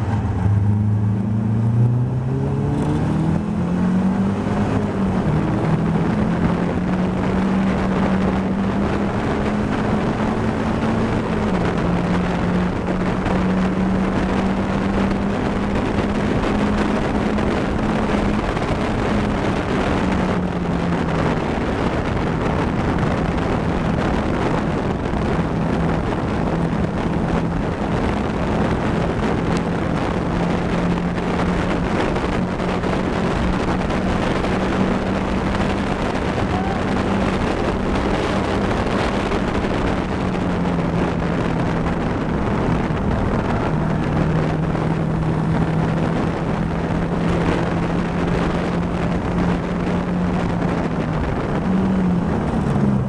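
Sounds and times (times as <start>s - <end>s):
race car engine at high revs: 0.0s - 53.0s
wind rush: 0.0s - 53.0s.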